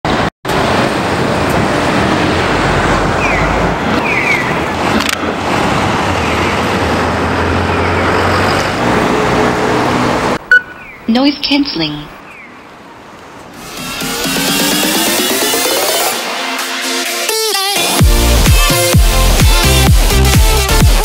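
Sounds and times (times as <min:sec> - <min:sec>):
city street traffic: 0:00.1 - 0:21.0.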